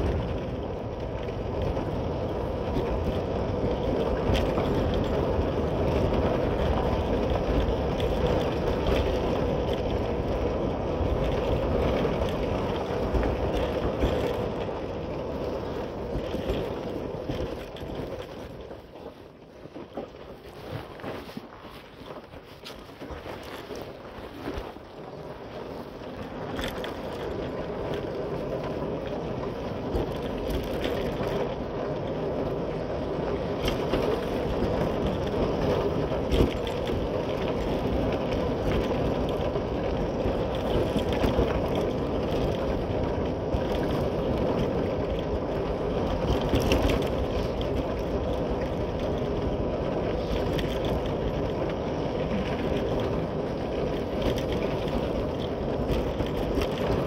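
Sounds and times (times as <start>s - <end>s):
small clicks and rattles: 0.0s - 57.0s
tyre noise: 0.0s - 57.0s.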